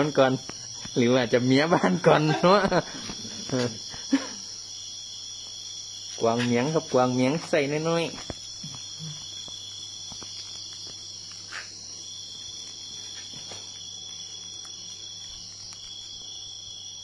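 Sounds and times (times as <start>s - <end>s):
high insect trill: 0.0s - 17.0s.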